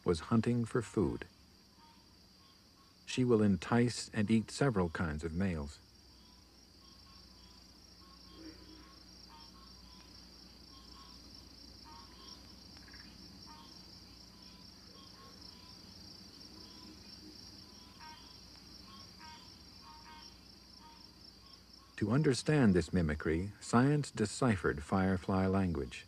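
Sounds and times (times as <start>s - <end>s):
insects trilling: 0.0s - 26.0s
faint short insect chirps: 1.2s - 23.0s.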